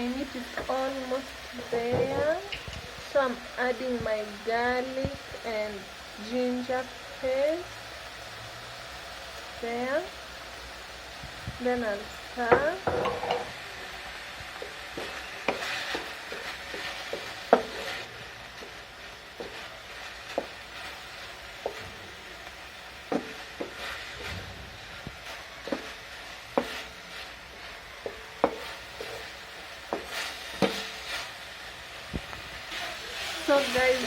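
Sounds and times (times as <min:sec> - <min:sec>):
chicken sizzling in a pan: 0:00.0 - 0:34.0.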